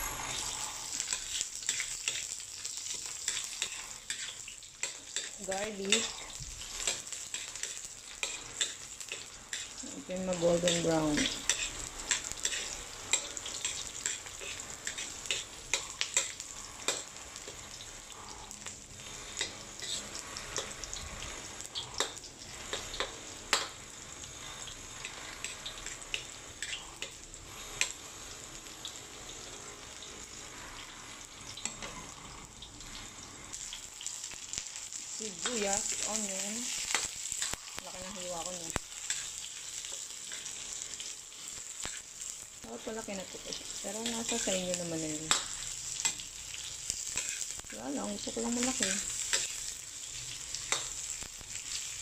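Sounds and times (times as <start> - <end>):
metal spatula scraping a wok: 0.0 - 28.3, 30.5 - 32.5, 35.4 - 49.8
garlic sizzling in hot oil: 0.0 - 52.0.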